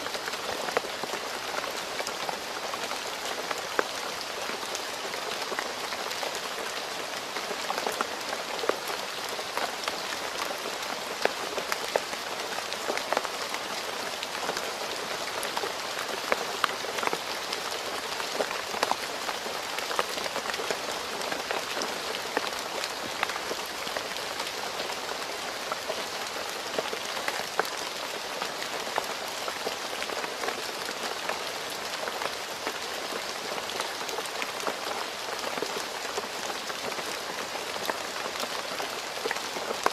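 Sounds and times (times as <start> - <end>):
rain on a road: 0.0 - 39.9.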